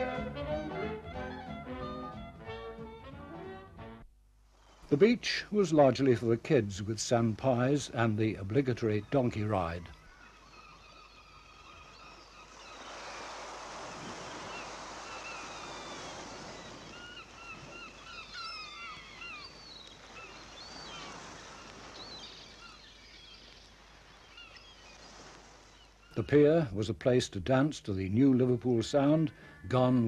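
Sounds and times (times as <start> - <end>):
gulls calling: 0.0 - 2.8, 4.8 - 26.7.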